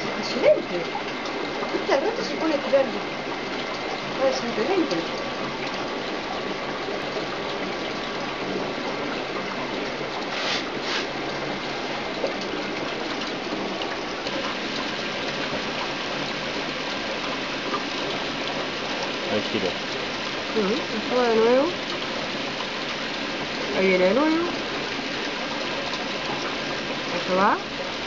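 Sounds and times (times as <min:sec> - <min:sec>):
gas bubbling through water: 0:00.0 - 0:28.0.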